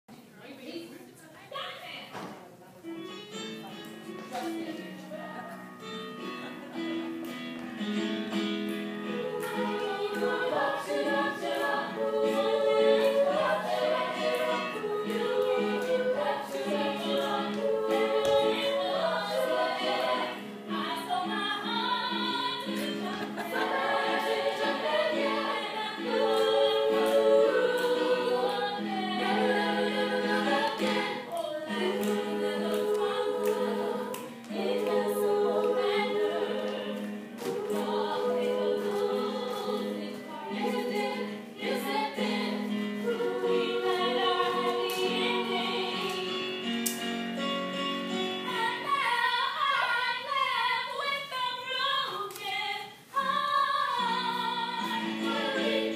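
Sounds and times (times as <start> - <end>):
choir singing in harmony: 8.2 - 46.8, 48.0 - 52.0, 52.9 - 55.9.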